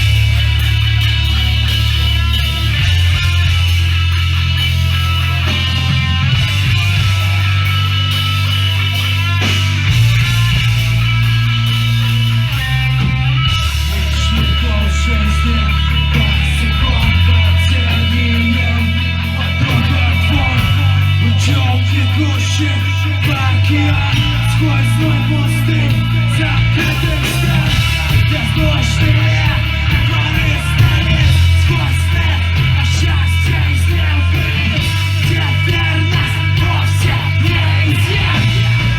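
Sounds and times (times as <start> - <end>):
distorted guitars: 0.0 - 38.9
drums with crashing cymbals: 0.0 - 38.9
heavy bass: 0.0 - 38.9.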